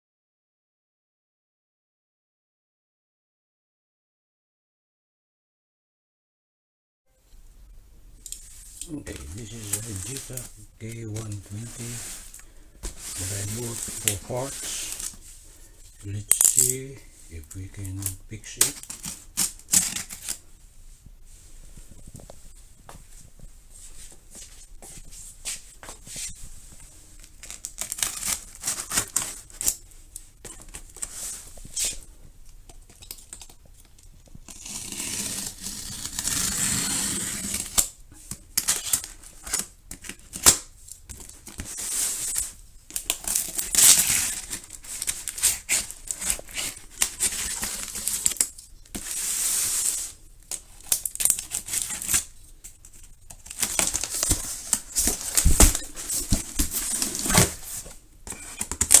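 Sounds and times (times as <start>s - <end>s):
rustling or scraping: 7.2s - 59.0s.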